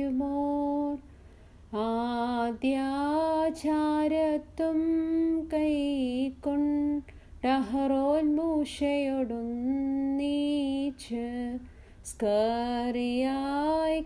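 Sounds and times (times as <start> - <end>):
woman singing hymn unaccompanied: 0.0 - 1.1, 1.7 - 14.0.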